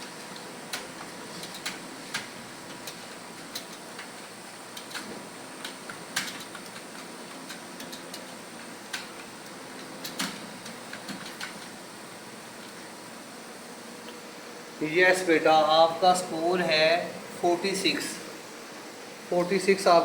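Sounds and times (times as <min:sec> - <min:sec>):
room noise hiss: 0:00.0 - 0:20.0.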